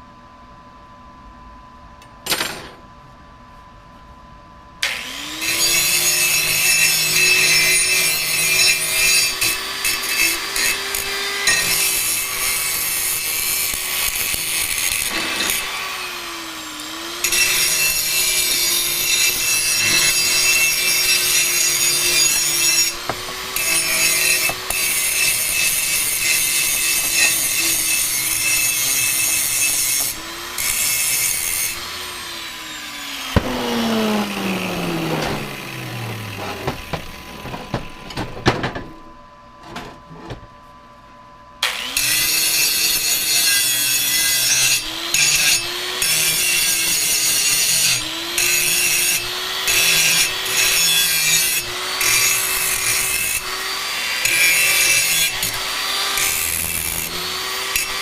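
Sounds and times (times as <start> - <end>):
angle grinder cutting steel: 4.8 - 38.1, 41.6 - 58.0.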